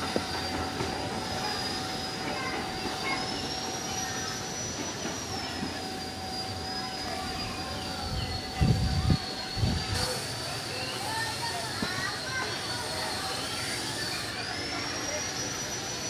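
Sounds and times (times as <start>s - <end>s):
rumble of running train: 0.0s - 16.0s
train wheels squealing: 0.0s - 16.0s.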